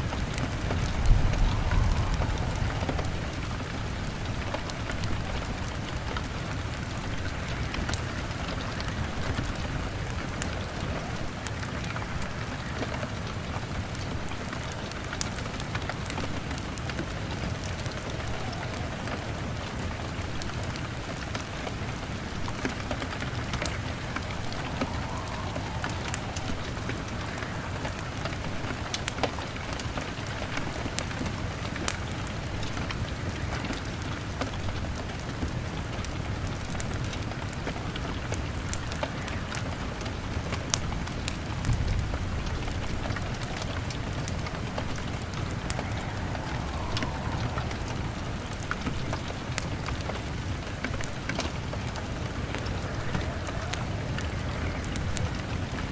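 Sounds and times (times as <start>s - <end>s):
log fire crackling: 0.0s - 55.9s
rain on a window: 0.0s - 55.9s.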